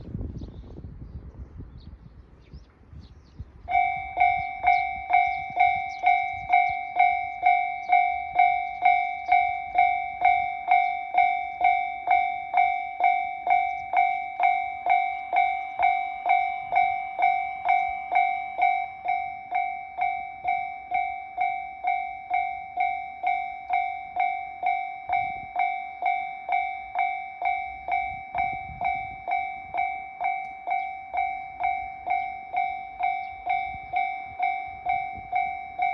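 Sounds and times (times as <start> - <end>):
level-crossing alarm ringing: 3.7 - 35.9.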